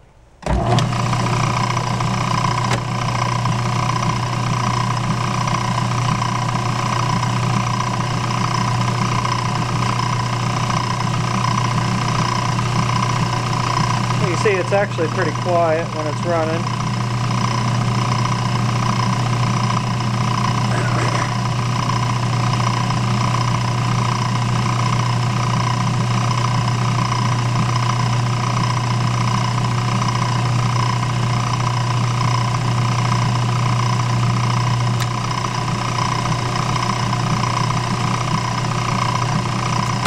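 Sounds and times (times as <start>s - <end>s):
lathe motor humming: 0.4s - 40.0s.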